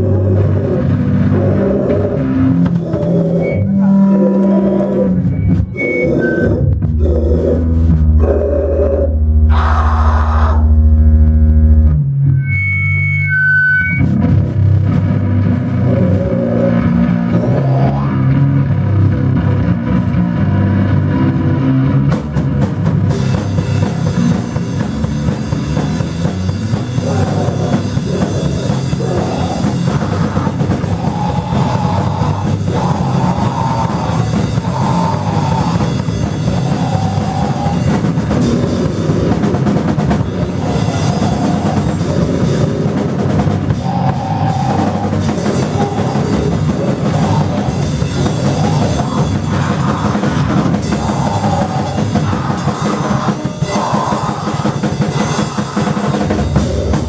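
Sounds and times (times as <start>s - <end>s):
drum kit pounding: 0.0s - 5.8s, 14.0s - 57.0s
rock band playing: 0.0s - 6.1s, 13.9s - 57.0s.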